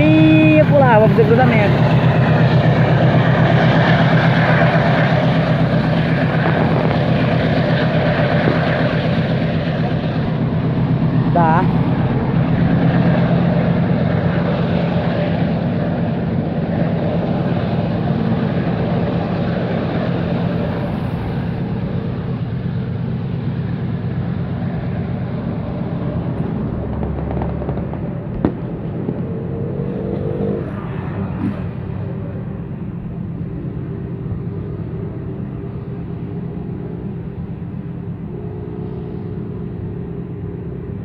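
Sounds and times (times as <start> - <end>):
diesel locomotive hum: 0.0 - 41.0
train wheels rumbling on rails: 0.0 - 41.0.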